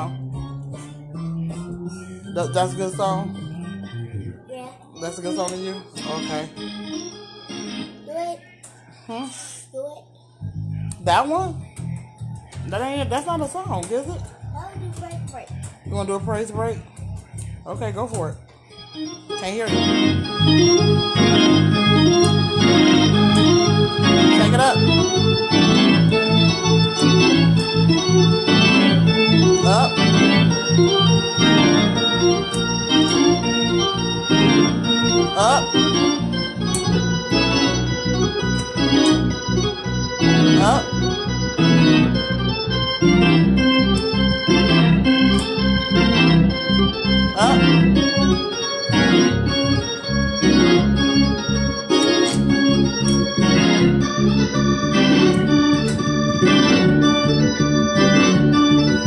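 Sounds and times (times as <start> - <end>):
gospel organ playing chords: 0.0 - 9.1, 10.2 - 59.0.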